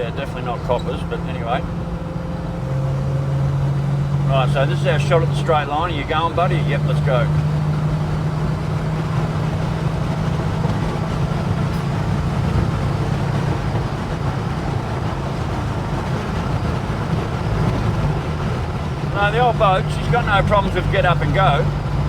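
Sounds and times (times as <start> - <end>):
car engine accelerating: 0.0 - 22.0
tyre and road noise: 0.0 - 22.0.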